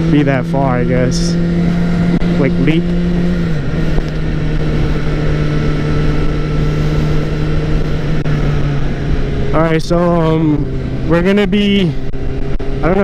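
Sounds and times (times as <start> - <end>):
constant noisy rush: 0.0 - 13.0
motorcycle engine running: 0.0 - 13.0.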